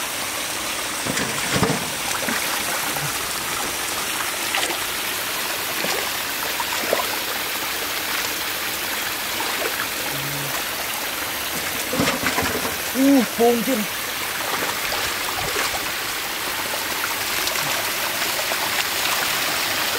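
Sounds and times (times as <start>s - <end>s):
stream water running over rocks: 0.0s - 19.9s.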